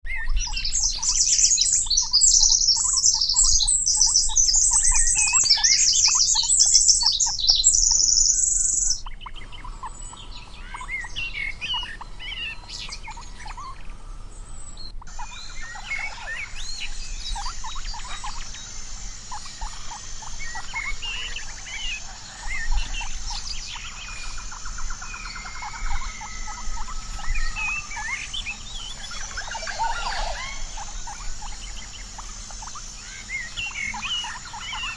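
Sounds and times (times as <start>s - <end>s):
birds chirping in chorus: 0.1s - 34.9s
steady high insect hum: 0.1s - 34.9s.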